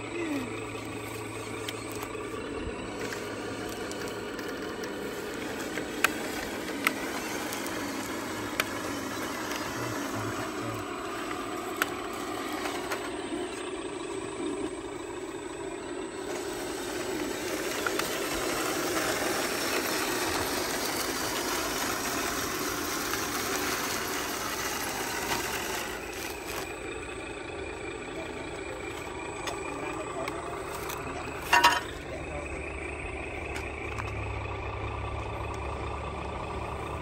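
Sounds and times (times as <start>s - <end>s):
model vehicles humming with rattle: 0.0s - 37.0s.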